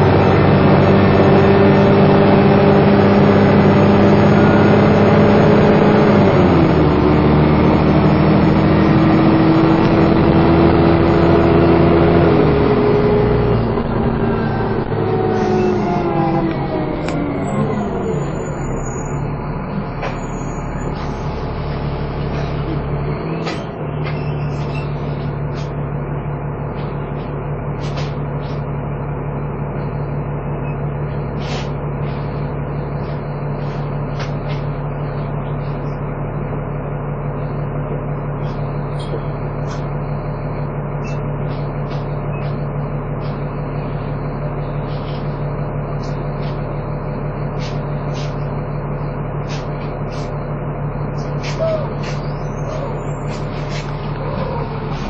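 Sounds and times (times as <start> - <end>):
bus engine whining: 0.0 - 55.0.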